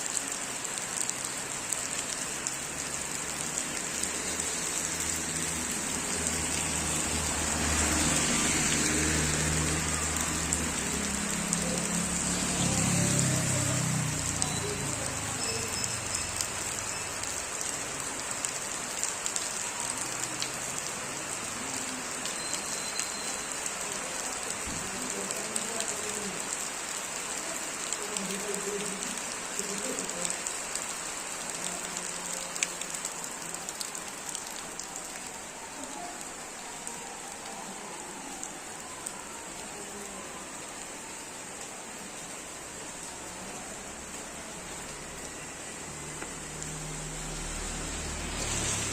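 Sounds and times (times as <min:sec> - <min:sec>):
rain pattering on surfaces: 0:00.0 - 0:48.9.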